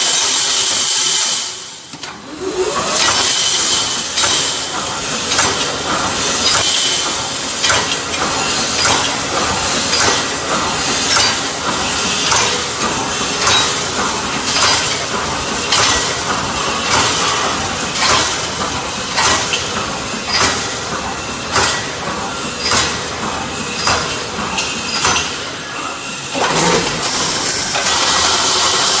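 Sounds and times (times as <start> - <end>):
metallic clack and hiss: 0.0 - 2.2, 2.8 - 29.0
welding machine running: 0.0 - 29.0.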